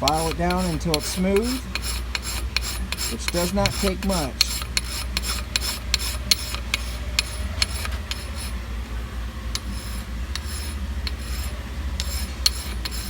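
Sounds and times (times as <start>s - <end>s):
file rasping on metal: 0.0s - 8.6s, 9.5s - 13.0s
steady low hum: 0.0s - 13.0s.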